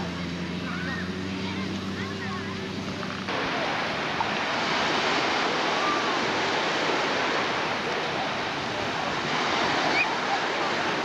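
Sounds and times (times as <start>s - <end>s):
faint distant voices: 0.0s - 11.0s
waves breaking on beach: 0.0s - 11.0s.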